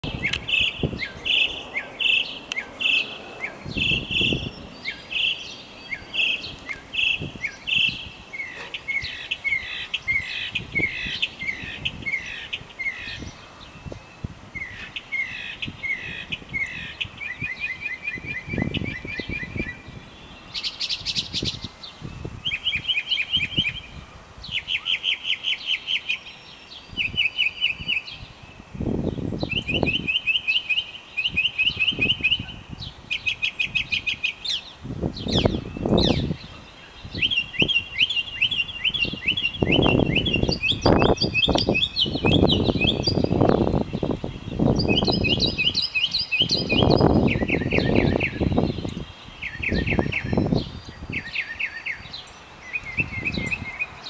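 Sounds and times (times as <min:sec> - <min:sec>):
mockingbird singing: 0:00.0 - 0:54.0.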